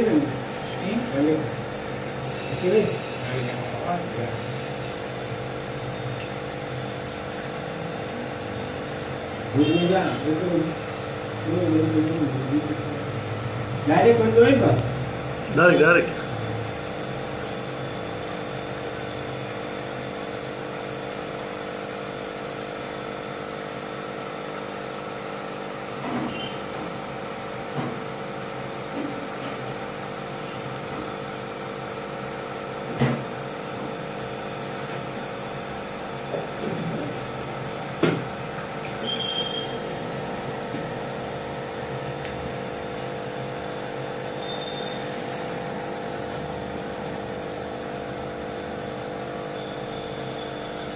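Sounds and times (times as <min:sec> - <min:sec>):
aquarium air pump humming: 0:00.0 - 0:50.9.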